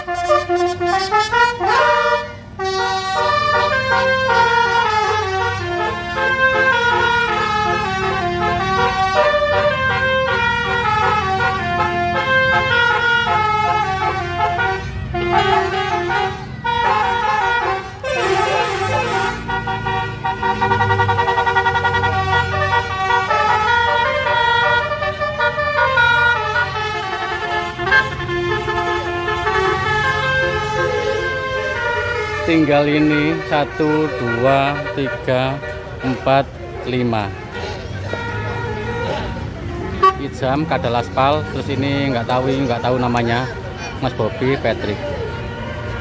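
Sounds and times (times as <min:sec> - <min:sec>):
musical air horns playing: 0:00.0 - 0:43.6.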